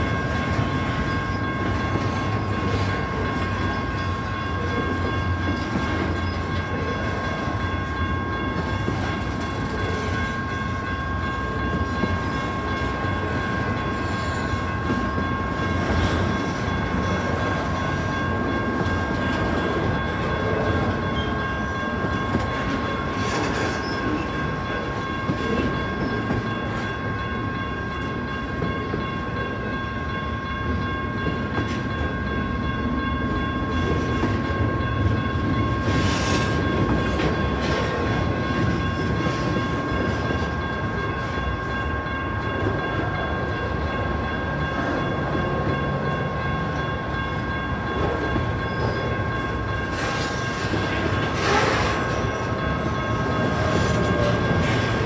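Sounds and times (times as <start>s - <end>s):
electronic crossing bells ringing: 0.0s - 55.0s
freight train wheels rumbling on rails: 0.0s - 55.0s.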